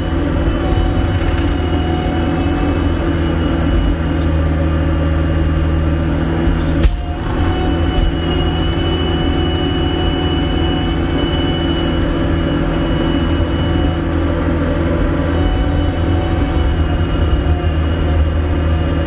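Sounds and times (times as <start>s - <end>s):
diesel engine running: 0.0s - 19.0s
high whine: 0.0s - 19.0s.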